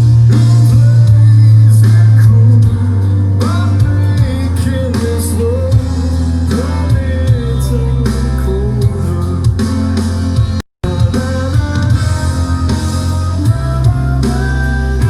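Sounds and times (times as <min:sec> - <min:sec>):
rock song with vocals: 0:00.0 - 0:15.0.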